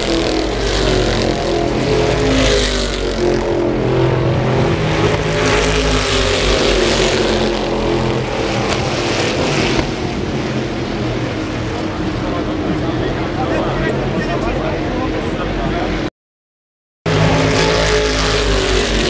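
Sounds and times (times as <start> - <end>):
racing cars passing at speed: 0.0 - 16.1, 17.1 - 19.0.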